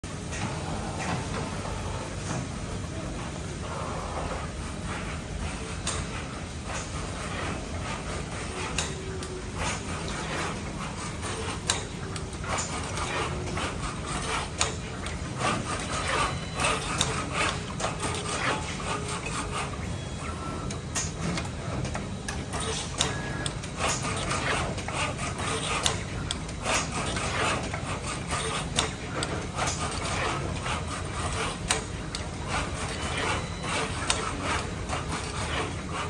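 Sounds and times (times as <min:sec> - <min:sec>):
machine motors humming: 0:00.1 - 0:36.0
machine clicks and clacks: 0:04.2 - 0:36.0.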